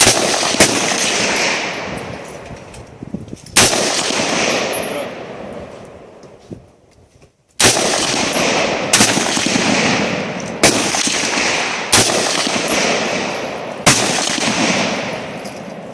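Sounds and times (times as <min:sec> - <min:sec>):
rifle shots with echo: 0:00.0 - 0:02.2, 0:03.6 - 0:06.2, 0:07.6 - 0:15.9.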